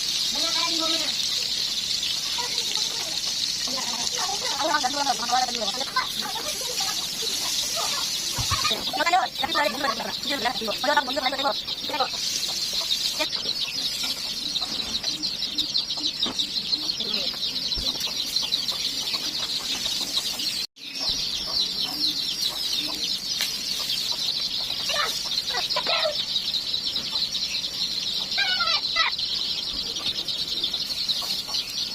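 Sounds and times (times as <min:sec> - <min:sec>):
chickens clucking: 0:00.0 - 0:31.9
high-pitched chirping chorus: 0:00.0 - 0:31.9.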